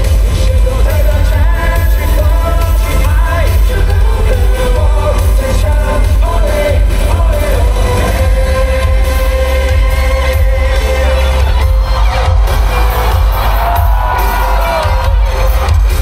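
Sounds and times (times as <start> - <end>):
pop music over sound system: 0.0 - 16.0.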